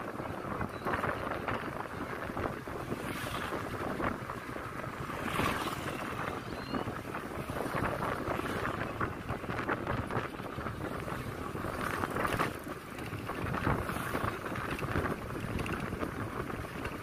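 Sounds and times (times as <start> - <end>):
road and engine rumble: 0.0 - 17.0
wind buffeting microphone: 0.0 - 17.0.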